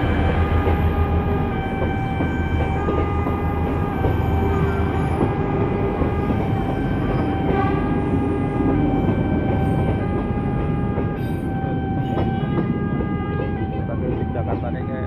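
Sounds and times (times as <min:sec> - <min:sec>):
train passing at low speed: 0:00.0 - 0:15.0.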